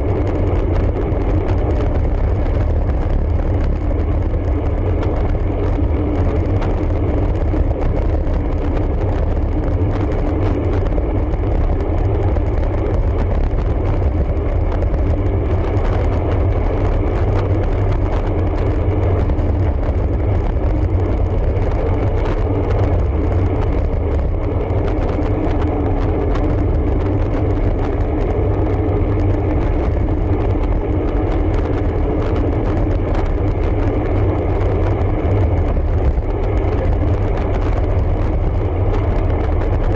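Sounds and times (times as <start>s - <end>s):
bicycle road noise: 0.0s - 39.9s
steady low hum: 0.0s - 39.9s
wind rush on microphone: 0.0s - 39.9s.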